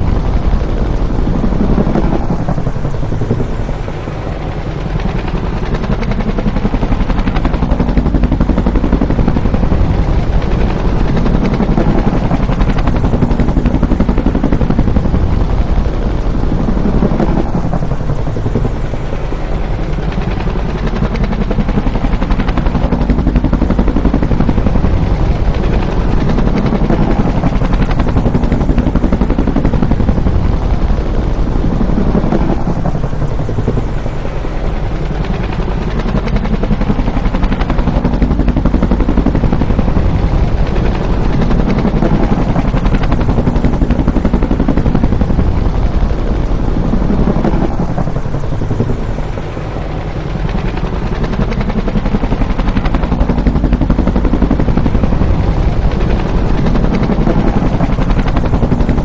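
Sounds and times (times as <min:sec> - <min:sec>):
helicopter engine noise: 0:00.0 - 0:59.0
helicopter rotor chopping: 0:00.0 - 0:59.0.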